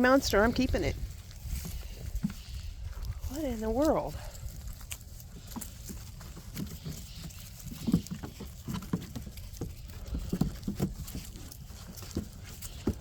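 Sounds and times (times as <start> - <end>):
paws pattering and scraping: 0.0 - 13.0
puppies scuffling in play: 0.0 - 13.0.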